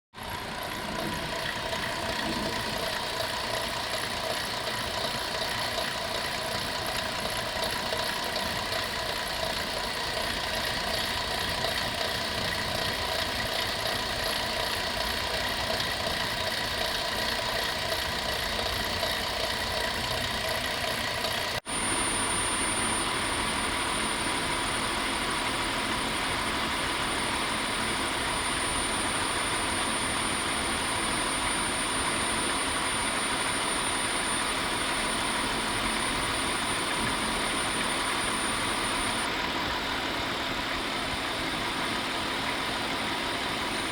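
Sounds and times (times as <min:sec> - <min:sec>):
engine mechanical rattle: 0:00.1 - 0:43.9
engine high whine: 0:00.2 - 0:43.9.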